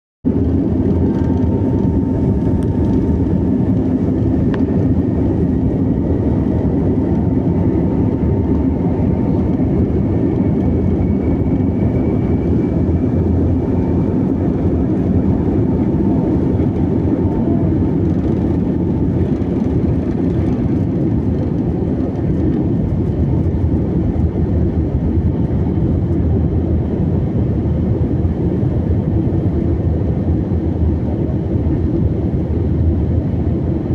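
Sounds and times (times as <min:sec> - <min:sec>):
airplane engines rumbling: 0:00.2 - 0:33.9.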